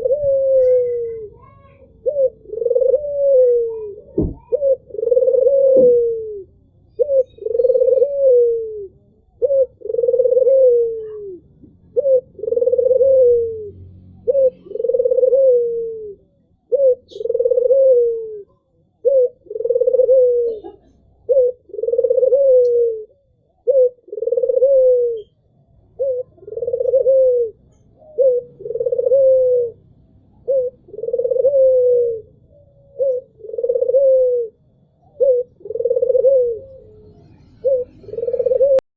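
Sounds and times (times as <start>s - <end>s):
dove cooing: 0.0s - 38.8s.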